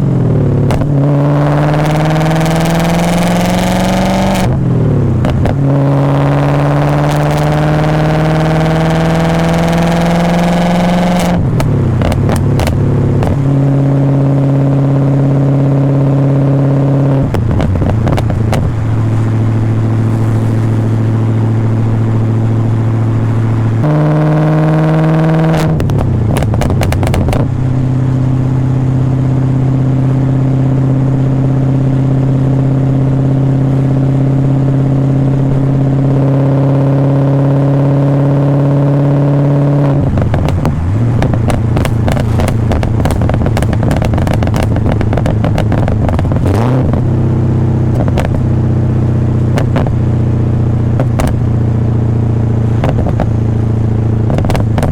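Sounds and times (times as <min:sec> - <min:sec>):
exhaust crackles and pops: 0:00.0 - 0:36.6, 0:38.3 - 0:54.9
car engine accelerating: 0:00.0 - 0:54.9.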